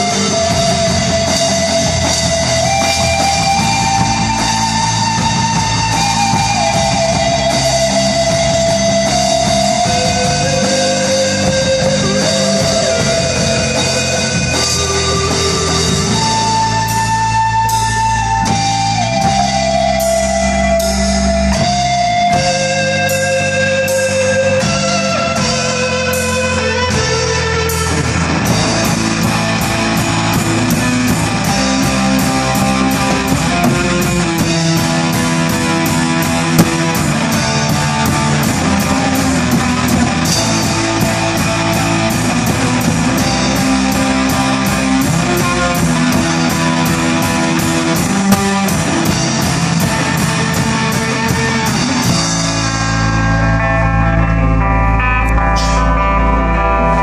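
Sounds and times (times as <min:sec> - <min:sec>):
drum kit beat: 0:00.0 - 0:53.2
distorted electric guitar: 0:00.0 - 0:57.0
electric bass: 0:00.0 - 0:57.0.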